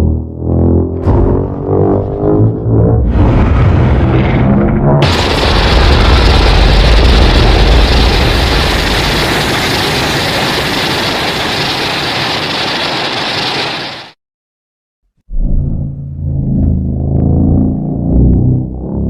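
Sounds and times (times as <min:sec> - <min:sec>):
rushing bass rumble: 0:00.0 - 0:11.7, 0:15.3 - 0:19.0.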